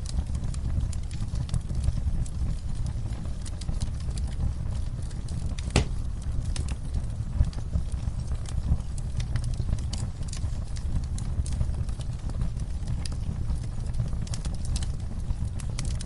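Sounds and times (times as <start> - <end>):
fire rumbling: 0.0 - 16.0
wood fire crackling and popping: 0.0 - 16.0.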